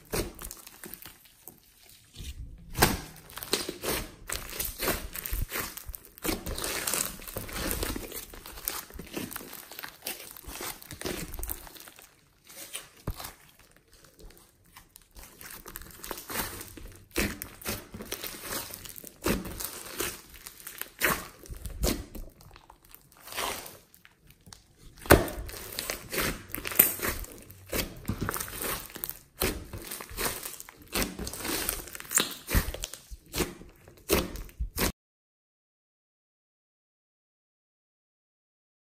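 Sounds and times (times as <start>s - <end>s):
slime squishing with crackles and pops: 0.0s - 34.9s.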